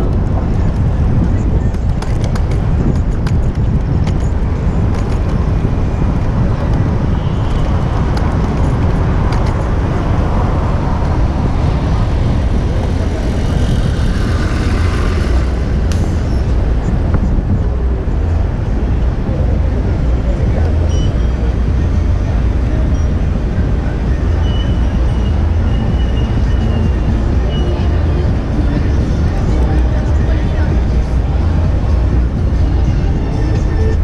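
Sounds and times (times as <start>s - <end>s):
city traffic: 0.0s - 34.0s
wind rumbling on microphone: 0.0s - 34.0s.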